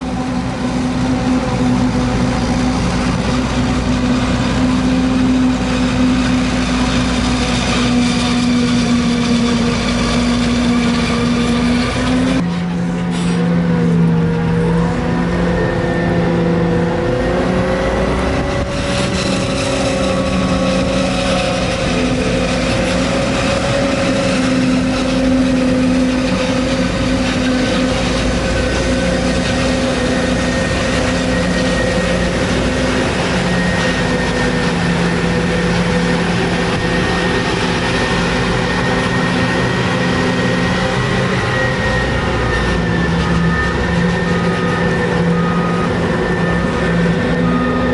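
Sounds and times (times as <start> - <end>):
diesel engines droning: 0.0 - 47.9.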